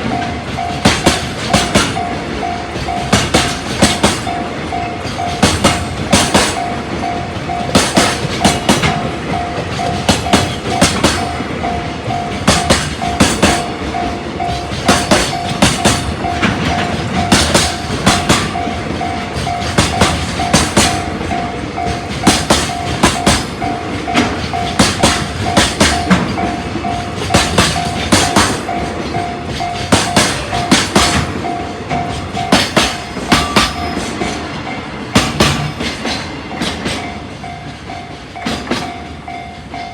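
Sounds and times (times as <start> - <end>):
level crossing alarm ringing: 0.0 - 39.9
train wheels clicking over rail joint: 0.0 - 39.9.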